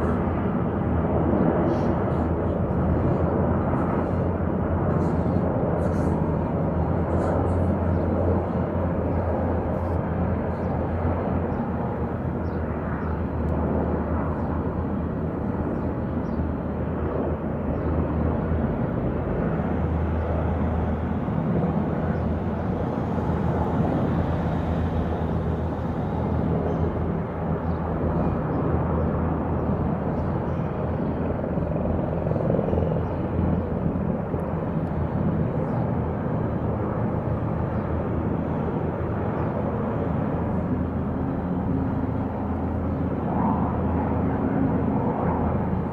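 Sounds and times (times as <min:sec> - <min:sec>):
distant helicopters droning: 0:00.0 - 0:45.9.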